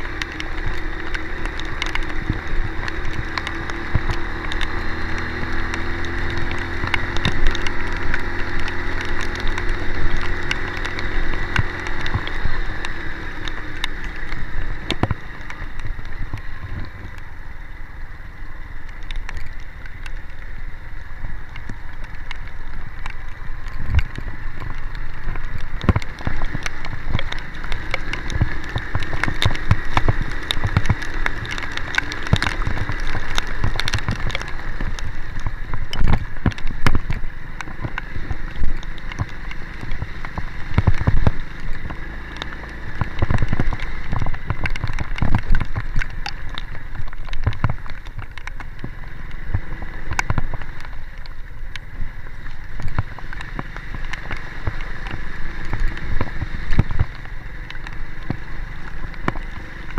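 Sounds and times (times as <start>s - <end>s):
raindrops pattering: 0.0s - 59.9s
vehicle rumbling: 0.0s - 59.9s.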